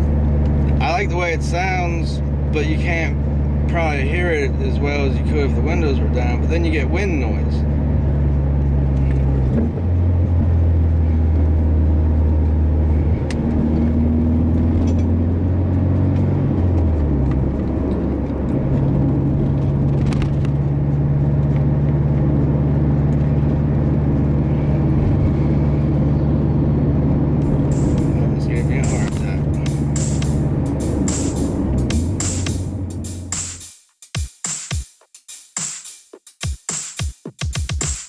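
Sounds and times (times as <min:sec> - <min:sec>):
car engine drone inside cabin: 0:00.0 - 0:33.7.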